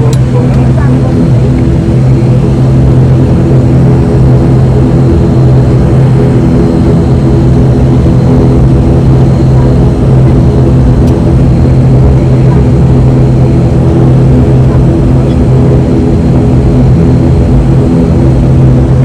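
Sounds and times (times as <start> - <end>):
turboprop engines droning in cabin: 0.0 - 19.0.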